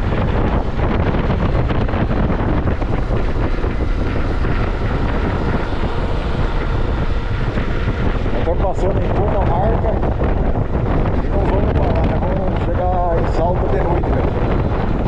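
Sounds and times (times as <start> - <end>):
motorcycle running: 0.0 - 15.0
road noise: 0.0 - 15.0
wind buffeting microphone: 0.0 - 15.0.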